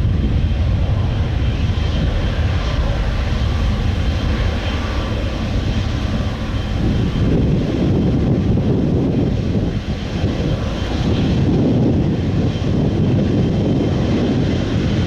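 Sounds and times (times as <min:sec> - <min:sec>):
faint high engine whine: 0:00.0 - 0:15.0
jet engines roaring on takeoff: 0:00.0 - 0:15.0.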